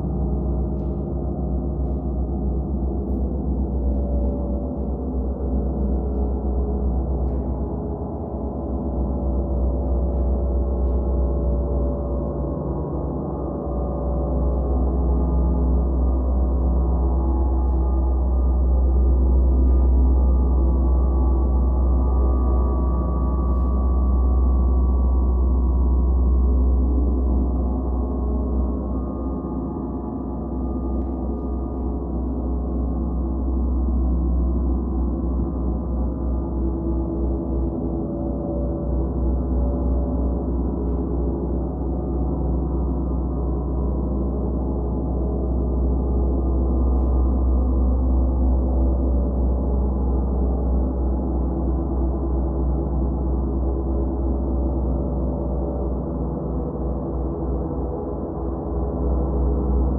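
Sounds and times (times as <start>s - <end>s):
deep low hum: 0.0s - 59.9s.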